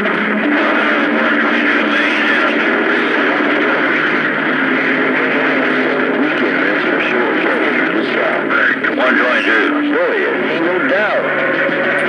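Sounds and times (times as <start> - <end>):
faint warbling radio signals: 0.0 - 12.0
radio static: 0.0 - 12.0.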